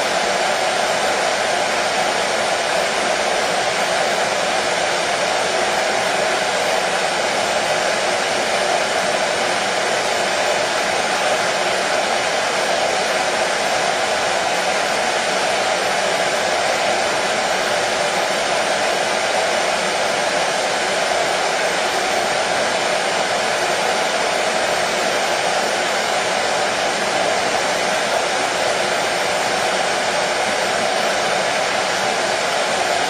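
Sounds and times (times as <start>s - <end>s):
hair dryer running: 0.0s - 33.0s.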